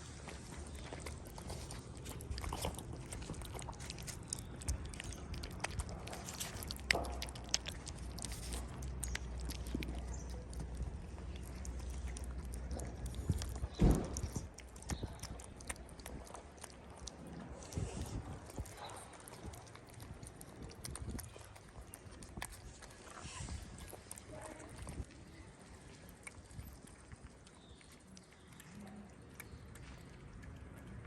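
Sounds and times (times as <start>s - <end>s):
cat chewing and crunching: 0.0s - 31.0s.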